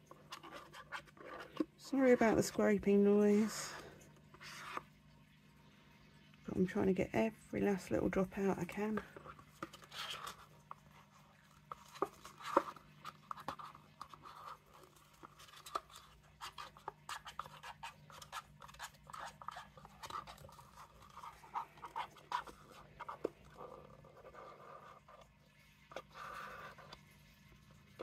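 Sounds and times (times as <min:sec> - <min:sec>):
stick scraping paper cup: 0:00.0 - 0:04.9, 0:08.8 - 0:27.2.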